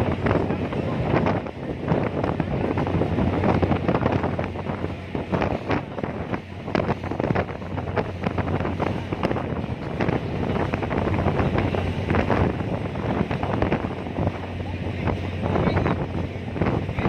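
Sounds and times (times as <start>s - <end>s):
ferry engine hum: 0.0s - 17.0s
wind buffeting microphone: 0.0s - 17.0s.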